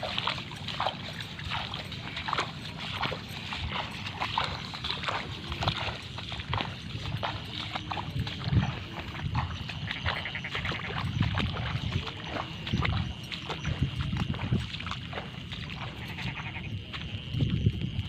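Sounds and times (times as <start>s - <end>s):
footsteps splashing through mud: 0.0s - 18.0s
insects trilling: 0.0s - 18.0s.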